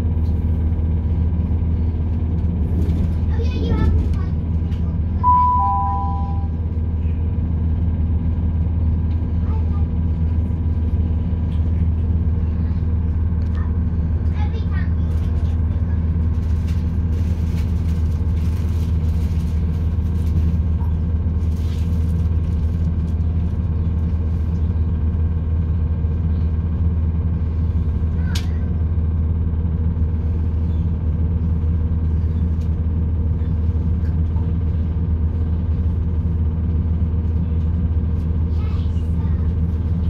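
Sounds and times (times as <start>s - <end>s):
train diesel engine drone: 0.0s - 40.0s.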